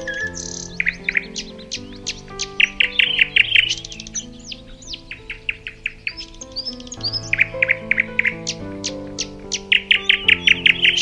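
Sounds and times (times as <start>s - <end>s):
soft instrumental music: 0.0s - 11.0s
songbirds chirping: 0.0s - 11.0s.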